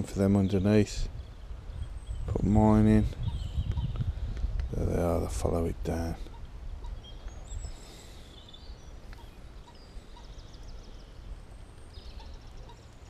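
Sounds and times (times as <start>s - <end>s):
birdsong: 0.0s - 13.0s.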